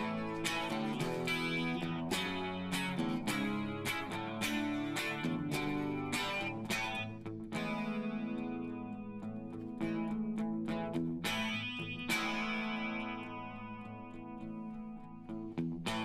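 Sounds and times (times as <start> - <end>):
guitar strumming chords: 0.0 - 16.0.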